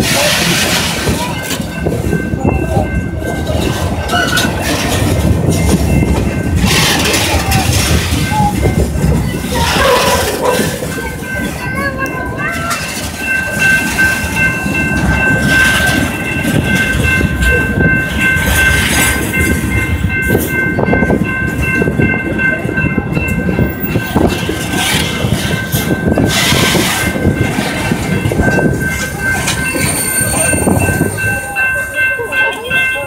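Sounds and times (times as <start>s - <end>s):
train wheels clattering on rails: 0.0s - 33.0s.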